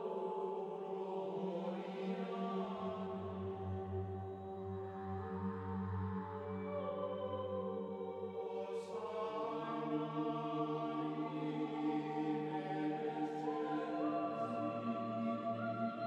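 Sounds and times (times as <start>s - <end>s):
chant-like drone: 0.0s - 16.0s
slow ambient music: 0.0s - 16.0s.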